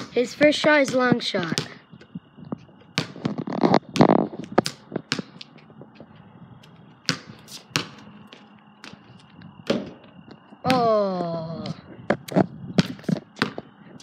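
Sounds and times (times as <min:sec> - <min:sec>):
basketball bouncing on concrete: 0:00.0 - 0:14.0.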